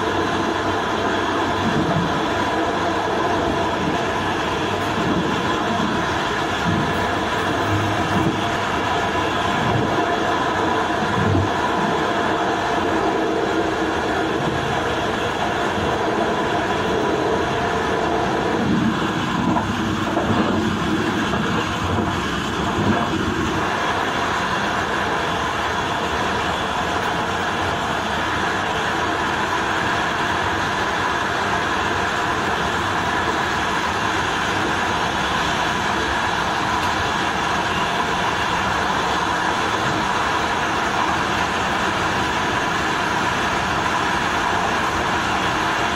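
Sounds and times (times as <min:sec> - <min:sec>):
steady train hum: 0:00.0 - 0:45.9
train wheels rumbling on rails: 0:00.0 - 0:45.9.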